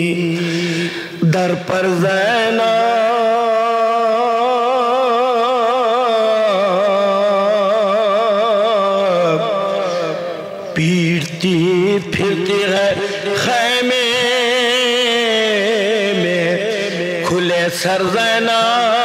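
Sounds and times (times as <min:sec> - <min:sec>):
man chanting unaccompanied: 0:00.0 - 0:19.0.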